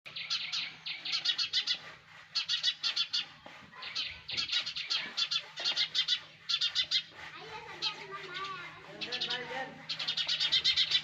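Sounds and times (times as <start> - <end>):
sparrows chirping: 0.1 - 11.0.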